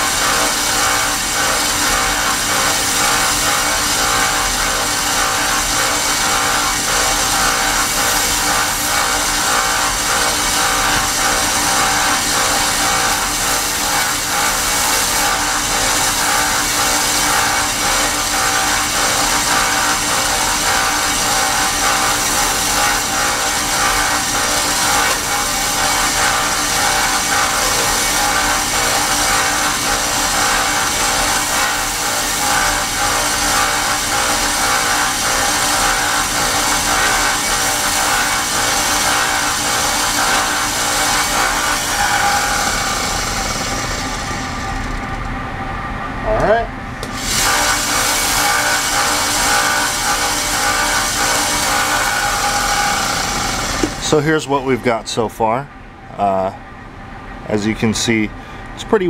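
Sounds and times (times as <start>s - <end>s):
belt sander grinding metal: 0.0s - 45.2s, 47.0s - 54.4s.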